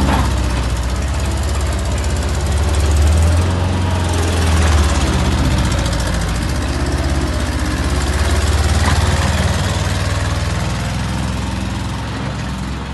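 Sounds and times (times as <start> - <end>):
diesel engine running with clatter: 0.0 - 12.9.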